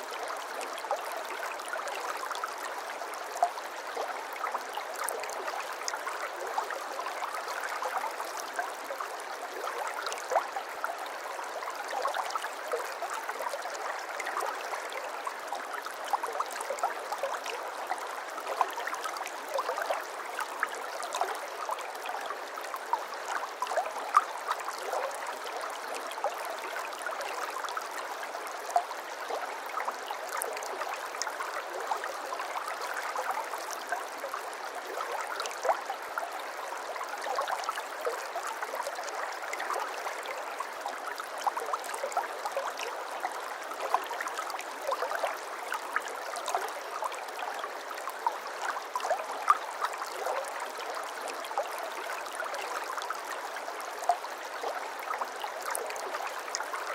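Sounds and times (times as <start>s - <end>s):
stream trickling and gurgling: 0.0s - 56.9s.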